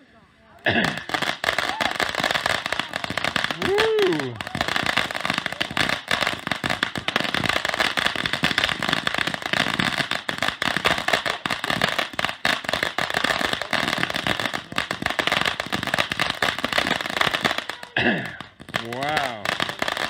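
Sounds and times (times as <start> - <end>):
firework fountain hissing and crackling: 0.0 - 20.0.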